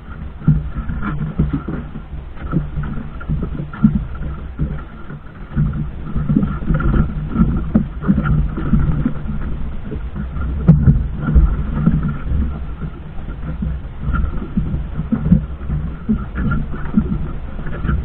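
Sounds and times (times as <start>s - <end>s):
boat engine running: 0.0s - 18.0s
water surging: 0.0s - 18.0s
wind noise: 0.0s - 18.0s.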